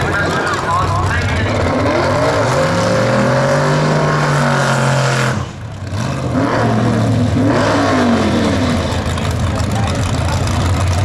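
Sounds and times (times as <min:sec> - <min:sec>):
drag car engine revving: 0:00.0 - 0:11.0.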